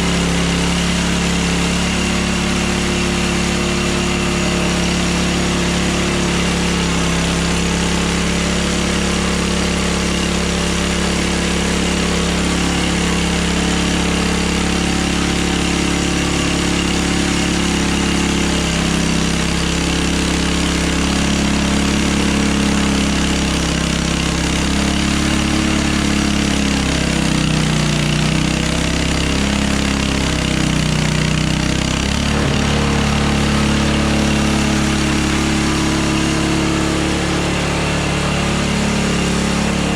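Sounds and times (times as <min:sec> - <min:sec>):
saw cutting boards: 0:00.0 - 0:39.9
sawmill engine running: 0:00.0 - 0:39.9.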